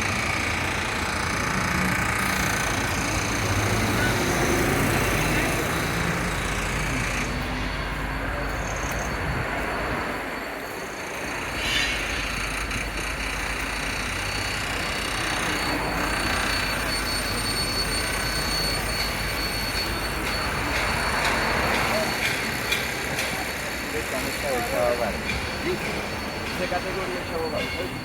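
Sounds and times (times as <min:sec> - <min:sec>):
passing traffic: 0:00.0 - 0:28.0.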